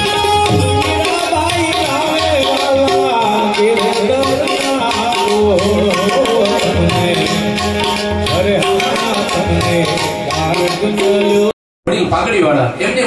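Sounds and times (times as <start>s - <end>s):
tabla strokes: 0.0s - 11.5s
harmonium: 0.0s - 11.6s
man singing: 0.0s - 11.6s.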